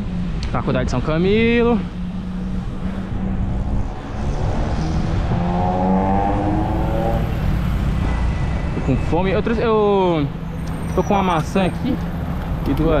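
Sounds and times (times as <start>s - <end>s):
passing vehicle engine: 0.0s - 13.0s
road traffic rumble: 0.0s - 13.0s.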